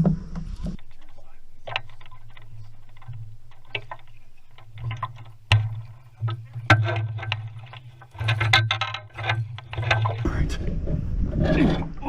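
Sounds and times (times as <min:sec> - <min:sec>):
knocks and clatter in a boat: 0:00.0 - 0:12.0
steady low hum: 0:00.0 - 0:12.0.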